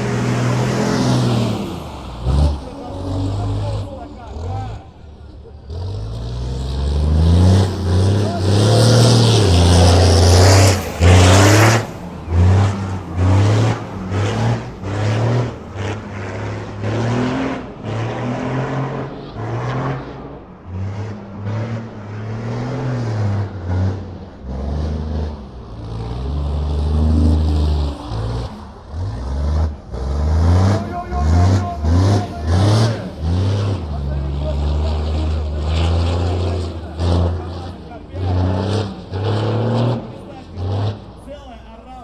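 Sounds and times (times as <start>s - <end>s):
truck diesel engine revving: 0.0s - 42.0s.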